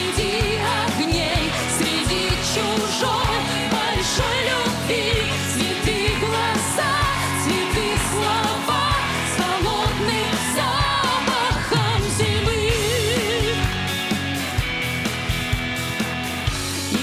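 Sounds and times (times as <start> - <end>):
woman singing pop song: 0.0 - 13.8
band playing: 0.0 - 17.0.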